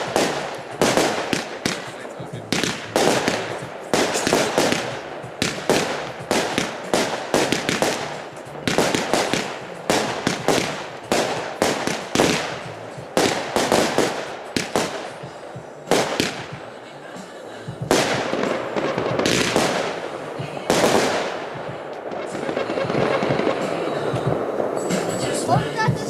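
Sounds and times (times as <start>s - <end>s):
bursting bangs with crackle: 0.0s - 16.8s, 17.8s - 25.2s
firework batteries firing: 0.0s - 25.6s.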